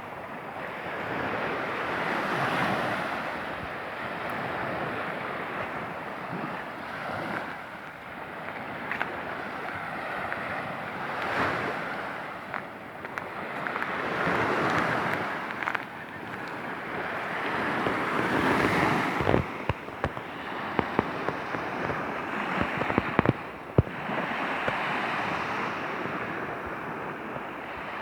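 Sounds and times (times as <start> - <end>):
sea waves washing onto shore: 0.0 - 28.0
wind rumbling on microphone: 0.0 - 28.0.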